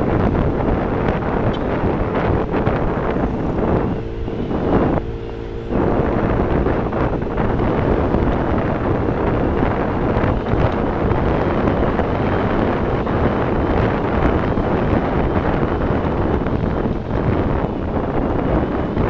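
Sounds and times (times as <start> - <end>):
scooter road and engine noise: 0.0 - 19.0
wind buffeting microphone: 0.0 - 19.0.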